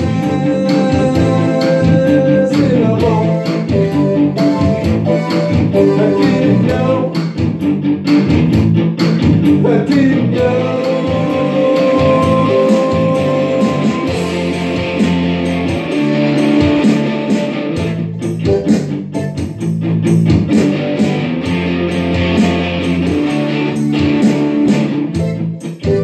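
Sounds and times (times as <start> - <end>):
electric guitars playing: 0.0 - 26.0.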